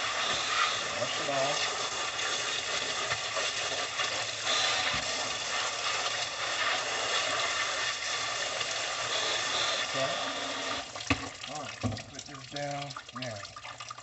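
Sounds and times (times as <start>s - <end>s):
hose water spraying: 0.0s - 13.4s.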